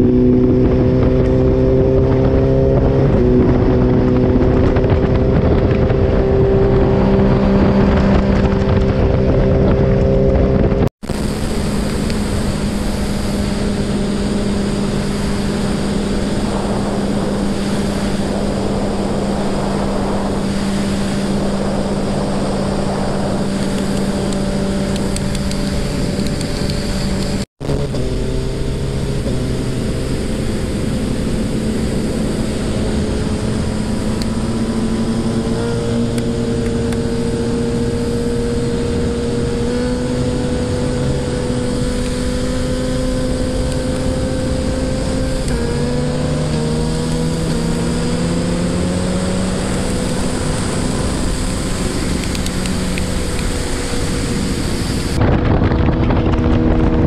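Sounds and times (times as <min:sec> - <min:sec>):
motorcycle engine cruising: 0:00.0 - 0:57.0
wind over microphone: 0:00.0 - 0:57.0.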